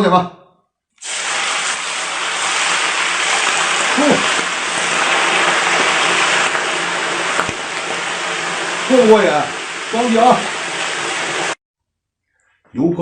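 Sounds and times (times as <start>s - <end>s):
hot oil sizzling: 1.0s - 11.6s.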